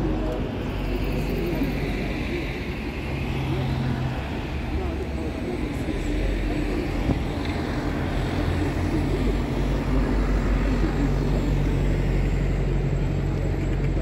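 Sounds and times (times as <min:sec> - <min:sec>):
bus engine humming: 0:00.0 - 0:14.0
city street traffic: 0:00.0 - 0:14.0.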